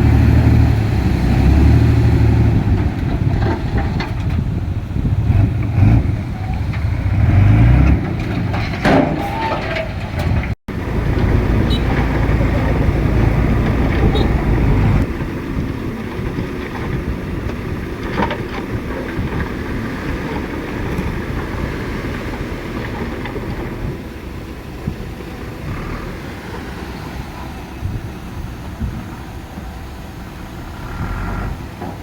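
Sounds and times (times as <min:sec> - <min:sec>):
diesel machinery rumbling: 0:00.0 - 0:32.0.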